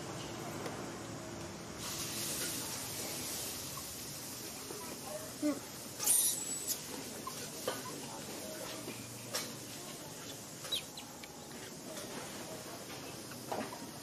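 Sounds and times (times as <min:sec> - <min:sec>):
steady outdoor background: 0:00.0 - 0:14.0.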